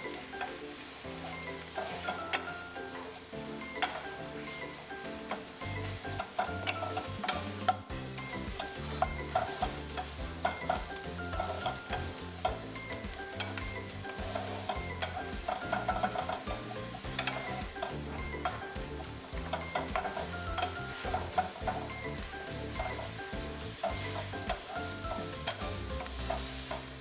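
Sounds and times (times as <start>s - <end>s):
food sizzling in hot oil: 0.0s - 27.0s
wooden spatulas scraping a skillet: 0.0s - 27.0s.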